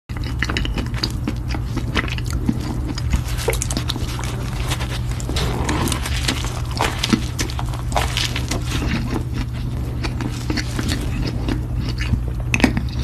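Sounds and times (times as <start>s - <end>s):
person biting and chewing food: 0.1s - 13.0s
steady low hum: 0.1s - 13.0s.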